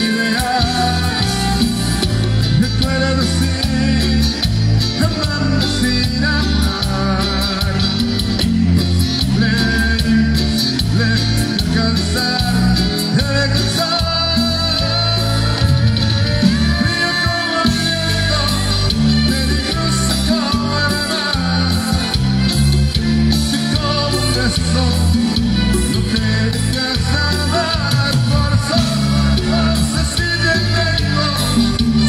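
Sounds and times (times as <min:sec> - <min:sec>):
lead singer's voice: 0:00.0 - 0:32.0
live band playing: 0:00.0 - 0:32.0.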